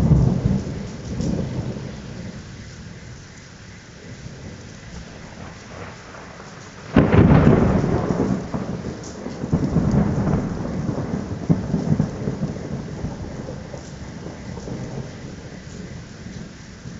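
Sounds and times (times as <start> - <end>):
thunder crack and rumble: 0.0 - 3.2, 4.0 - 16.9
steady rain: 0.0 - 16.9.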